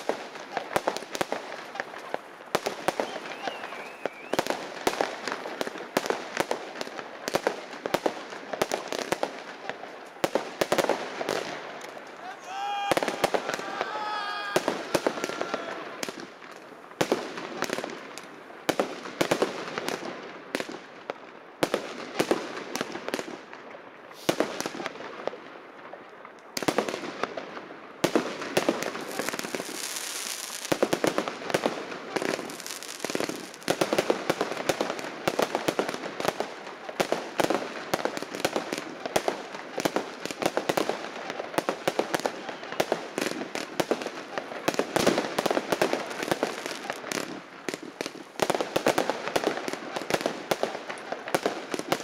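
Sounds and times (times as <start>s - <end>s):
fireworks banging and crackling: 0.0s - 52.0s.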